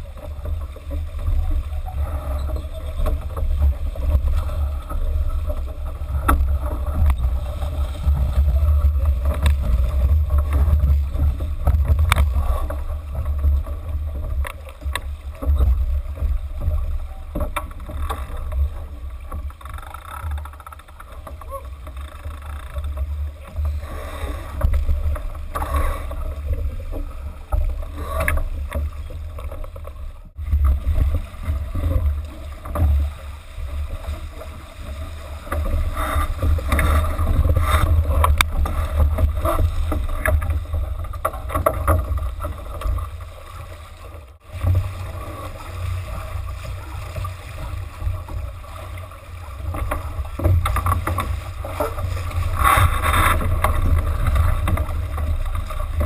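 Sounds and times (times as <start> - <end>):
water splashing along hull: 0.0 - 56.0.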